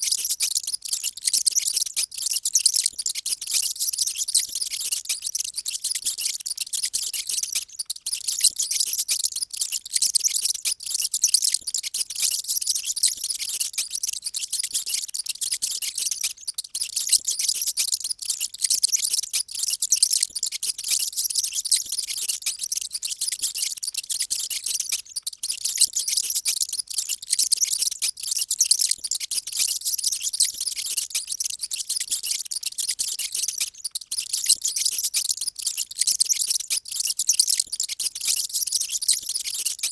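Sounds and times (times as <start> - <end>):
mice squeaking: 0.0 - 39.9.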